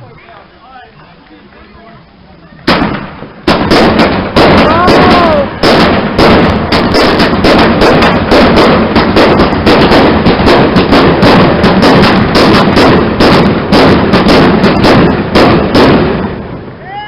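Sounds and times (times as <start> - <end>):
fireworks bangs and crackles: 2.6 - 17.0.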